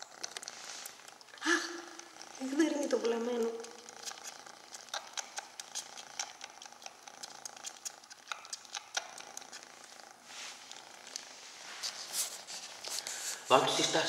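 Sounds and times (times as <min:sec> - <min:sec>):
kitten sucking wet clicks: 0:00.0 - 0:11.3.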